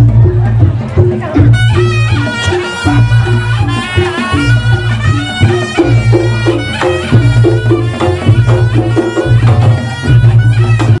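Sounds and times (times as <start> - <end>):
pitched melody line: 0.0 - 11.0.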